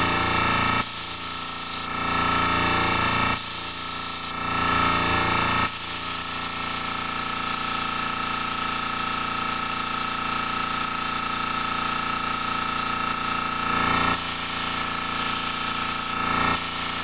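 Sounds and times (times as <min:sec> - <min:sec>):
airbrush spraying paint: 0:00.1 - 0:17.0.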